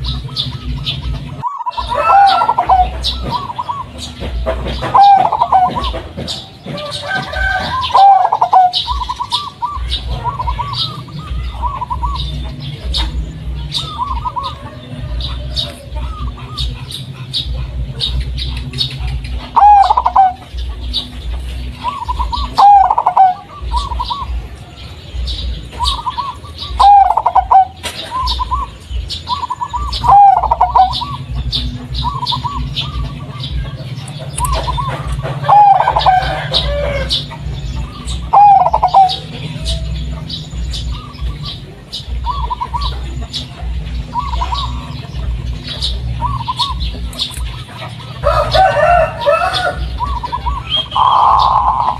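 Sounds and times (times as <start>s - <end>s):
dove cooing: 0.0s - 51.9s
steady low hum: 0.0s - 51.9s.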